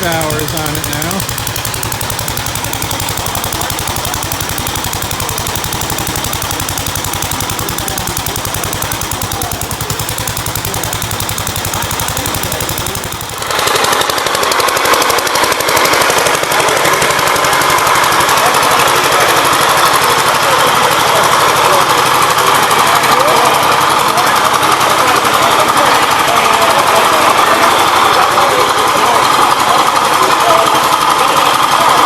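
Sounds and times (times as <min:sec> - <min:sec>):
small tractor engine running: 0:00.0 - 0:32.0.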